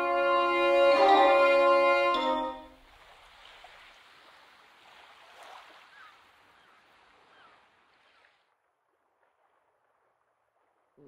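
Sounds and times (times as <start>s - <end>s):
water lapping: 0.6s - 11.0s.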